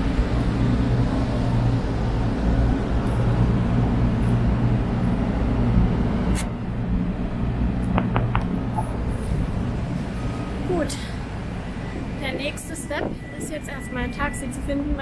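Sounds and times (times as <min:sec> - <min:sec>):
low mechanical rumble: 0:00.0 - 0:13.4
wind buffeting microphone: 0:00.0 - 0:14.1.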